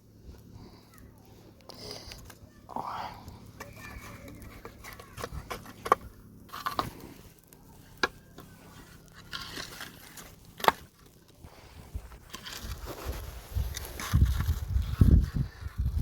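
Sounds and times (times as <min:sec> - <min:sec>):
faint rustling and scraping: 0:00.1 - 0:16.0.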